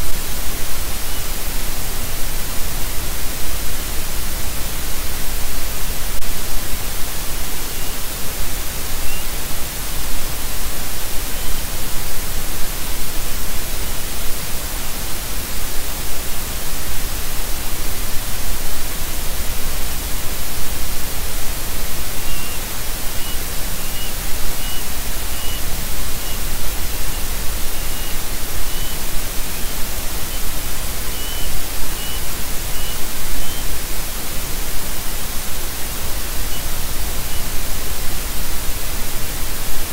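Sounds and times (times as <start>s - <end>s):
microphone static hiss: 0.0s - 39.9s.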